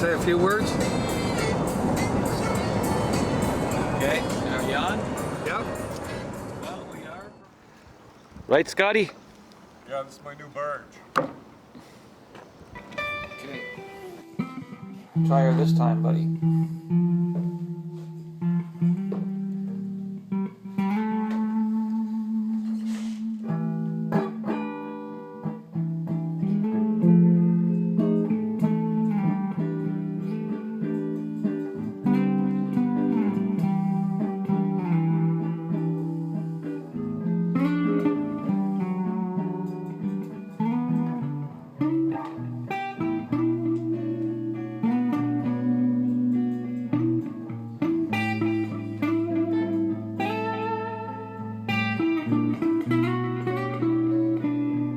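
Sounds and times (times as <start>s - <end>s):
plucked guitar music: 0.0s - 7.5s, 10.4s - 22.8s, 23.4s - 54.9s.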